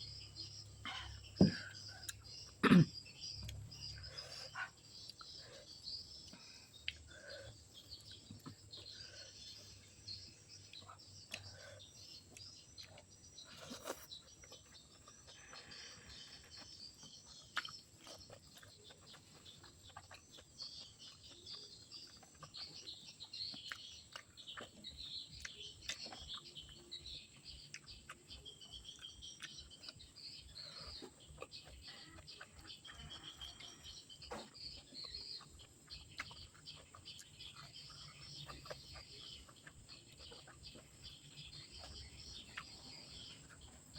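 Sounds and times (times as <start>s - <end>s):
birds chirping: 0.0s - 43.9s
chewing and crunching: 0.0s - 43.9s.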